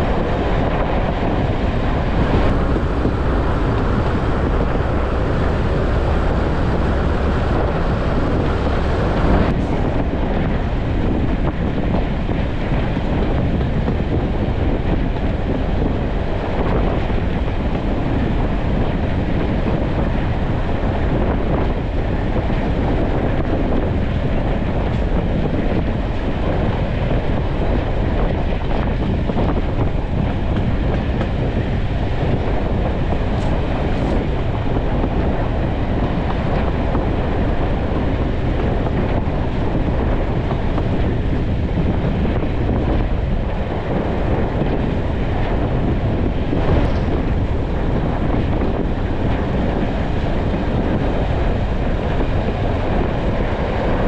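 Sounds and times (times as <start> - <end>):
train wheels rumbling on rails: 0.0 - 54.0
wind buffeting microphone: 0.0 - 54.0.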